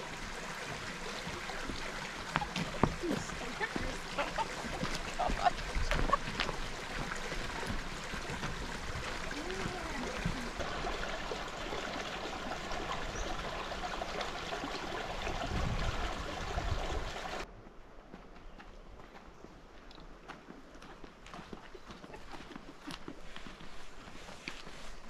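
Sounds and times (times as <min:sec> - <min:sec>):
creek water running and trickling: 0:00.0 - 0:17.5, 0:19.2 - 0:25.0.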